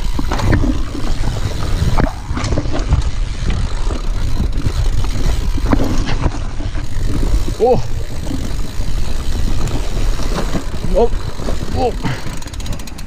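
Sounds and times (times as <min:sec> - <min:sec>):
bike knocks and rattles: 0:00.0 - 0:13.0.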